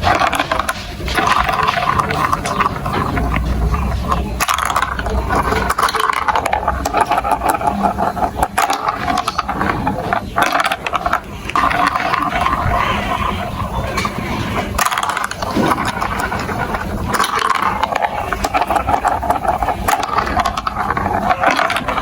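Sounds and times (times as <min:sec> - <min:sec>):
marbles rattling down a marble run: 0:00.0 - 0:22.0.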